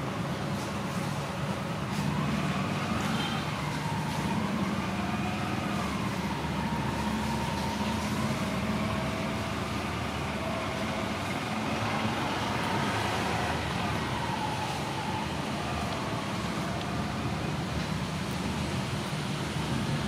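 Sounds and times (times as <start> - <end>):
distant road traffic rumble: 0.0 - 20.0.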